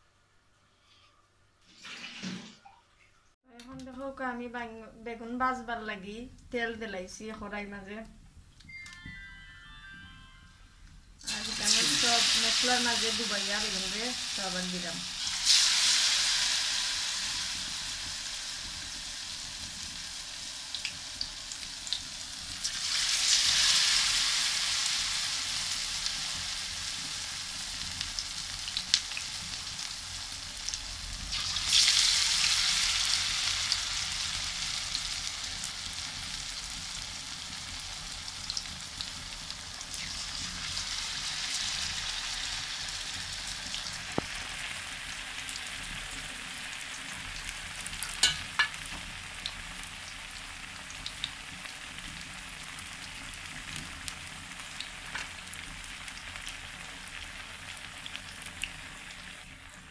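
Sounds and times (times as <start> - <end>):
deep-frying sizzle: 11.2 - 59.9.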